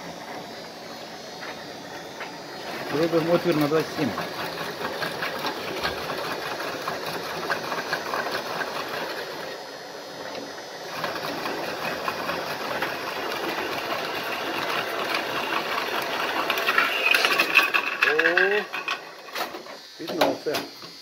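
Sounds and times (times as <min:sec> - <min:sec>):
drill press cutting steel: 0:00.0 - 0:09.6, 0:10.9 - 0:20.7.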